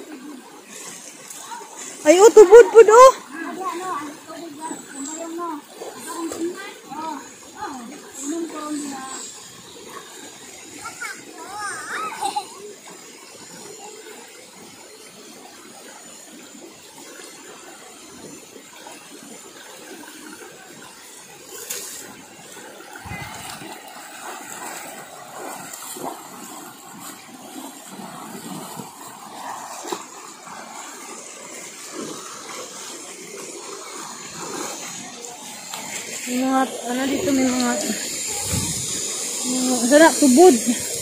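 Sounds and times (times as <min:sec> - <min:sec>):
rocky stream running: 0:00.0 - 0:41.0
splashes of wading: 0:00.0 - 0:41.0.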